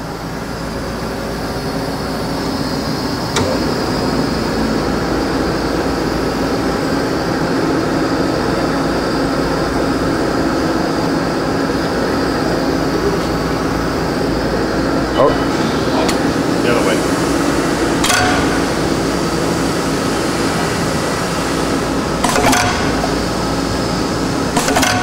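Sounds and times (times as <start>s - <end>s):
drilling machine motor hum: 0.0s - 25.0s.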